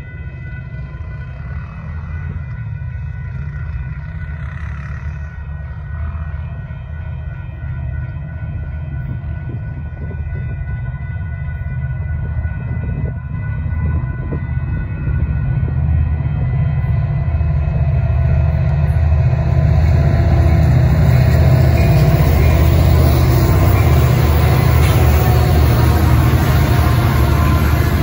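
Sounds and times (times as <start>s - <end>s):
diesel locomotive rumbling: 0.0s - 28.0s
train wheel and rail noise: 0.0s - 28.0s.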